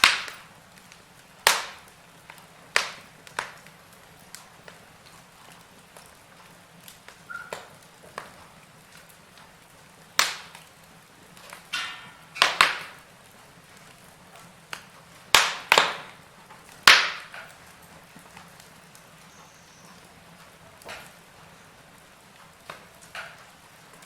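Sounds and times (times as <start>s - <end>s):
fire crackling faintly: 0.0s - 24.0s
logs cracking and popping: 0.0s - 24.0s.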